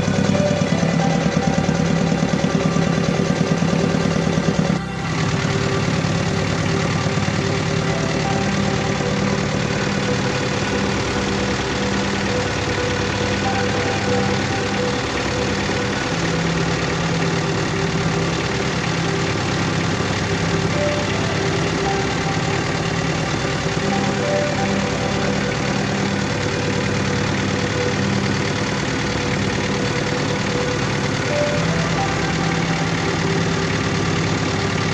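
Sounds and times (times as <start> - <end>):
engine idling with misfire: 0.0 - 34.9.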